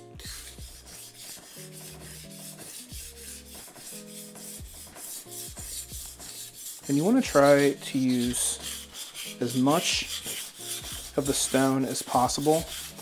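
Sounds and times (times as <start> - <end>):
knife scraping on whetstone: 0.1 - 13.0.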